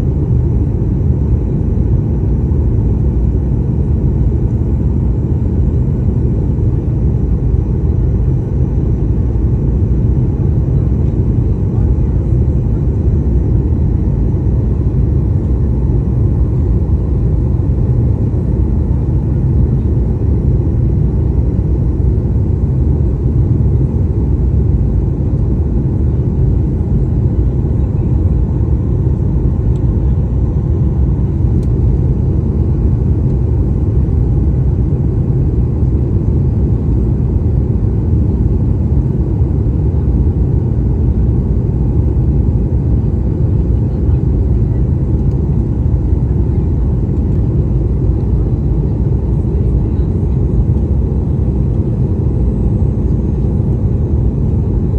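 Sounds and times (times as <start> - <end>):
airliner cabin rumble: 0.0 - 54.9.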